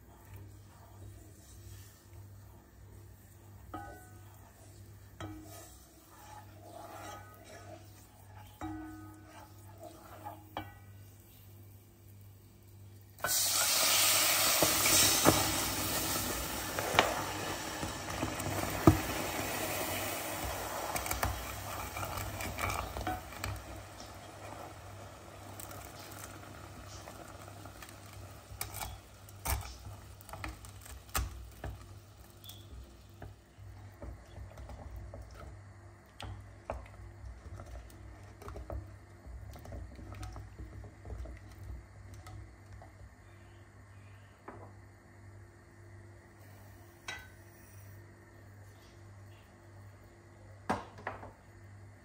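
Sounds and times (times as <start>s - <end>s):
sugar syrup sizzling in a pot: 0.0s - 52.0s.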